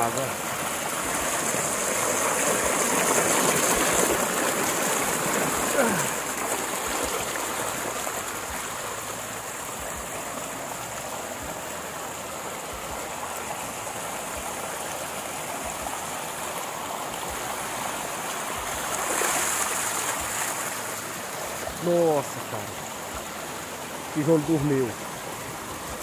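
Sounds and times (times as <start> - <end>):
runoff water rushing over ground: 0.0 - 26.0.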